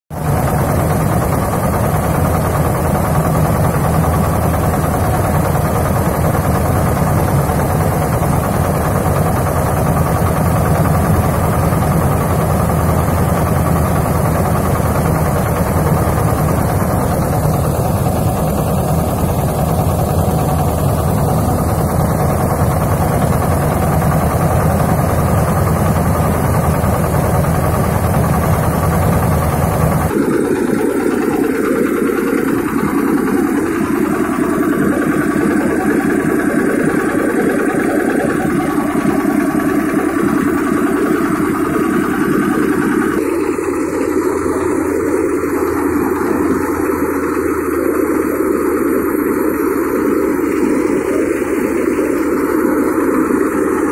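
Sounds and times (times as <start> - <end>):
diesel engine running: 0.1 - 53.9
thresher running: 0.1 - 53.9.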